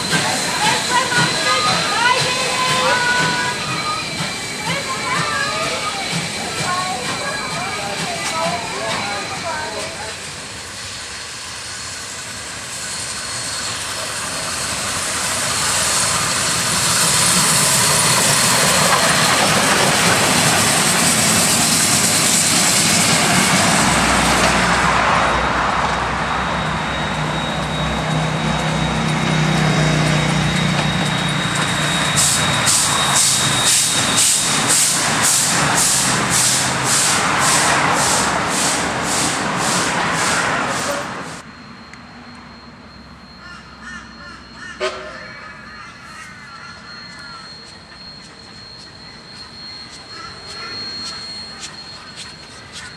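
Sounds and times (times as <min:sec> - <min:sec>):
steam locomotive rushing past: 0:00.0 - 0:41.8, 0:42.4 - 0:52.9
regular rolling beat of train: 0:00.0 - 0:52.9.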